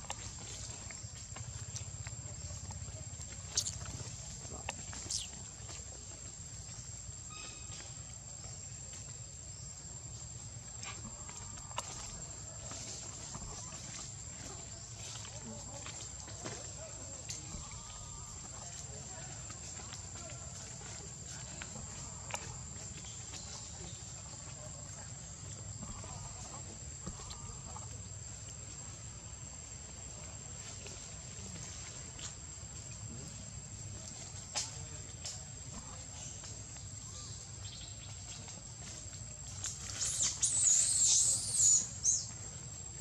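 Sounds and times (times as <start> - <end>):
high insect drone: 0.1 - 43.0.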